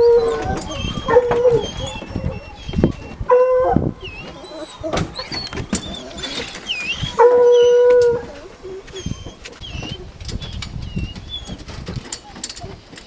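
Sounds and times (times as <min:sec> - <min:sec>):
hounds howling: 0:00.0 - 0:10.6
songbirds singing: 0:00.0 - 0:13.0.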